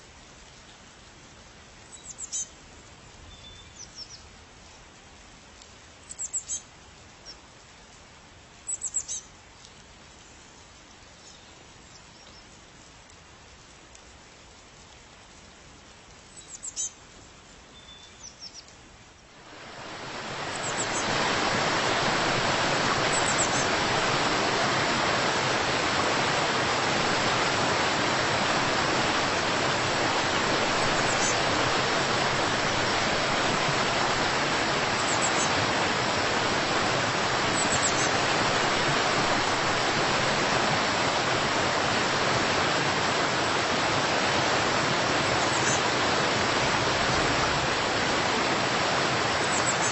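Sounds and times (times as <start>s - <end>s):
rush of falling water: 0.0s - 49.9s.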